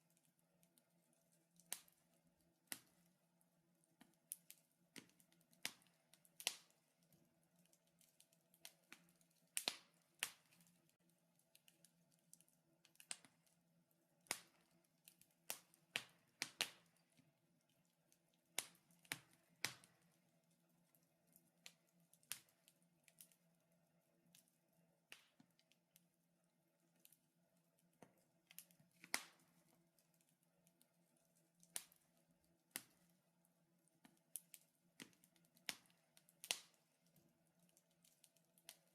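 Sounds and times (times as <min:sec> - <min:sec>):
wood fire crackling: 0:00.0 - 0:26.1, 0:26.8 - 0:38.9.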